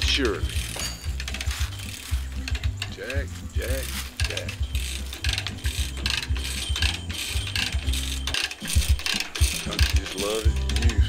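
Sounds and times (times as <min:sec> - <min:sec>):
ratchet clicks: 0:00.0 - 0:11.0.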